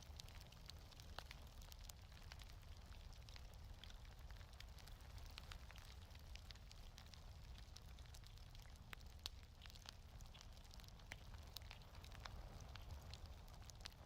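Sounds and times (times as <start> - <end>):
faint wood fire crackling: 0.0 - 14.0.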